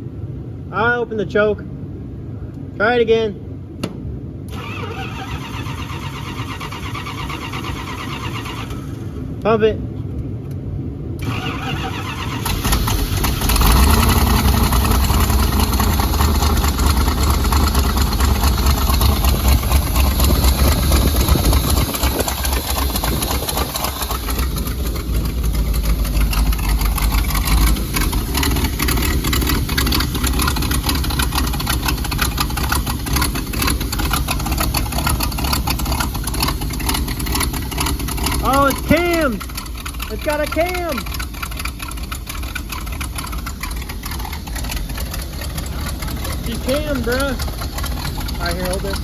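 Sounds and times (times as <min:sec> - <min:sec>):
truck engine starting and rumbling: 0:00.0 - 0:49.0.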